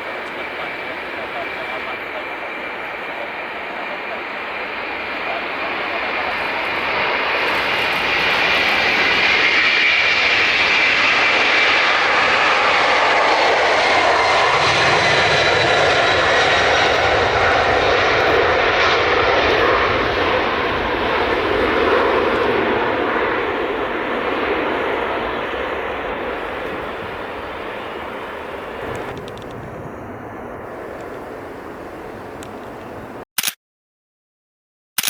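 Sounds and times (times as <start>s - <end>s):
jet engines passing: 0.0s - 33.2s.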